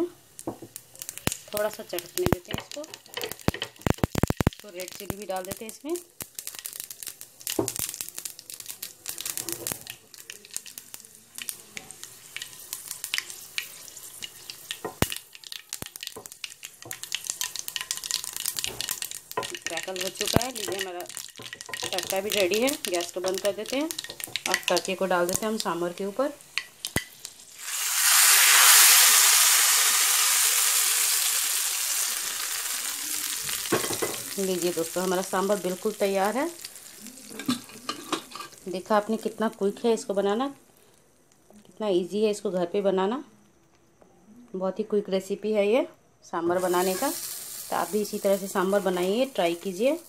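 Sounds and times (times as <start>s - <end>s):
oil sizzling: 0.0s - 41.5s, 46.5s - 50.0s
seeds popping in hot oil: 0.0s - 41.7s, 46.5s - 50.0s.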